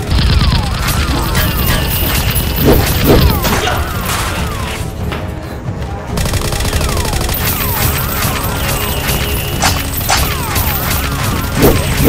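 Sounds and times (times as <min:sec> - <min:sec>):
gunshots: 0:00.0 - 0:04.8, 0:06.1 - 0:12.0
action background music: 0:00.0 - 0:12.0.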